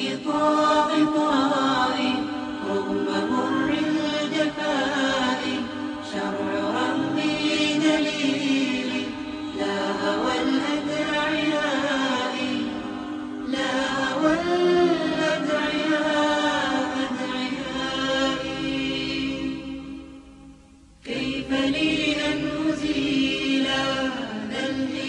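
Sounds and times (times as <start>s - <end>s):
voices chanting long notes: 0.0s - 25.0s.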